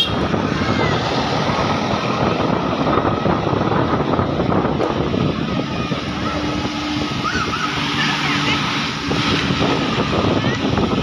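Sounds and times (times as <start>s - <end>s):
bus passing close by: 0.0s - 11.0s
wind buffeting microphone: 0.0s - 11.0s.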